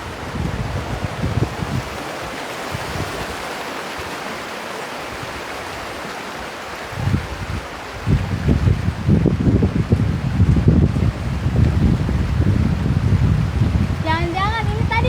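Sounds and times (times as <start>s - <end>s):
wind rumble on microphone: 0.0s - 4.3s, 6.7s - 15.0s
river water rushing over stones: 0.0s - 12.9s.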